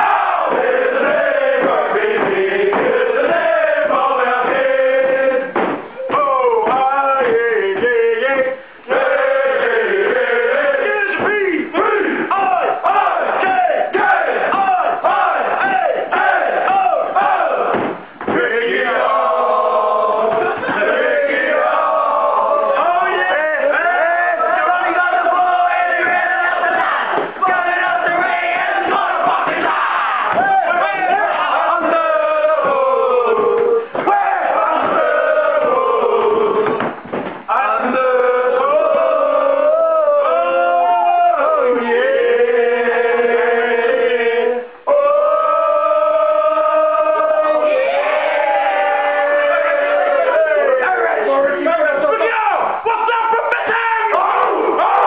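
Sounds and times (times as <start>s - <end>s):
men chanting in unison: 0.0s - 36.8s, 37.5s - 55.0s
men singing: 0.0s - 36.9s, 37.5s - 51.8s.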